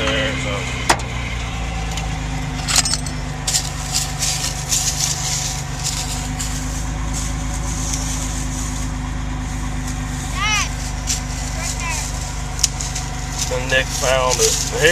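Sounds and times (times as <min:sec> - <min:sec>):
truck engine idling: 0:00.0 - 0:14.9.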